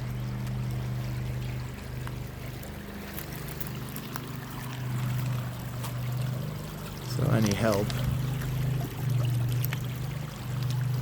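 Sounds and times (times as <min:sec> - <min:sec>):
steady low hum: 0:00.0 - 0:11.0
water rushing through channel: 0:00.0 - 0:11.0.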